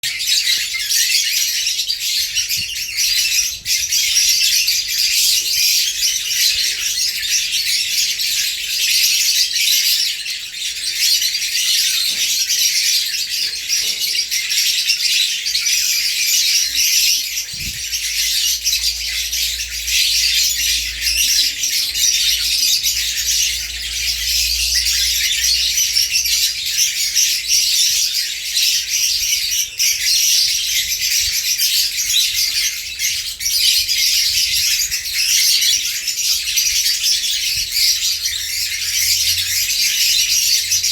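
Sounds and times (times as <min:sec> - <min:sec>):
lovebirds chattering and squawking: 0:00.0 - 0:40.9.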